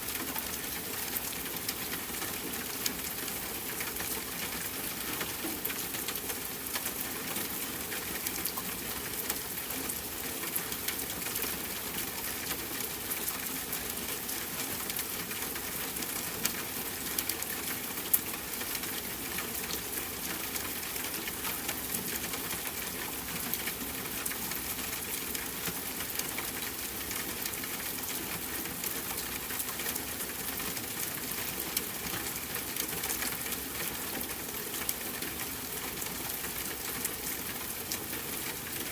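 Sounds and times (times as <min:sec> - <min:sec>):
rain tapping on a window: 0:00.0 - 0:38.9.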